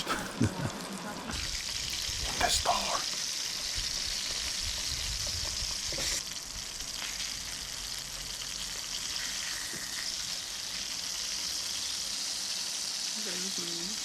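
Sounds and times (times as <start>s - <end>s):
fish sizzling in a skillet: 0.0s - 14.0s.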